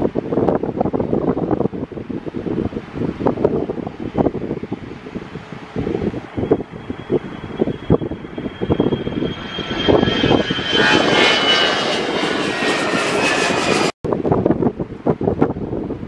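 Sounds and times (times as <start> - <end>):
jet engines roaring and whining: 0.0 - 14.5
wind buffeting microphone: 0.0 - 16.0.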